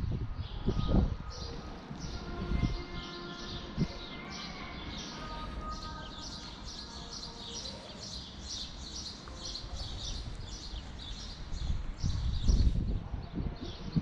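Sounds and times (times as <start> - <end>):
small birds chirping: 0.4 - 14.0.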